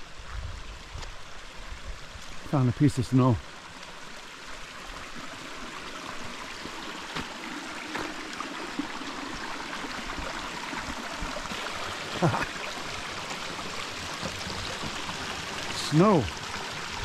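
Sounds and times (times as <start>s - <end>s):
stream rushing over rocks: 0.1s - 17.0s.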